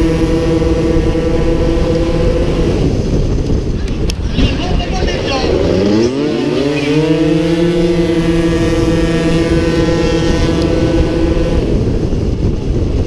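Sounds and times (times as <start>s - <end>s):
scooter engine at full throttle: 0.0s - 13.0s.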